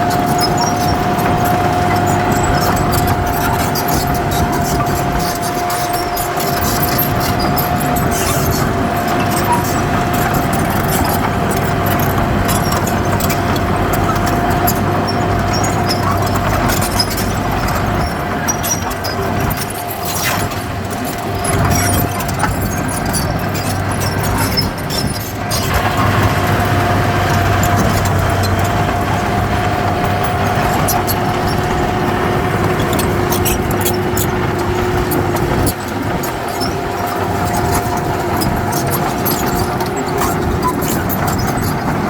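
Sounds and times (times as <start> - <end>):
continuous high whine: 0.0 - 42.0
heavy diesel machinery running: 0.0 - 42.0.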